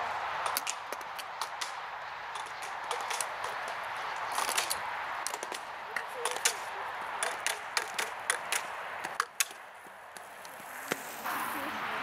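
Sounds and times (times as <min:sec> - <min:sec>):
skate wheels rolling on asphalt: 0:00.0 - 0:12.0
slalom poles clacking: 0:00.4 - 0:11.2.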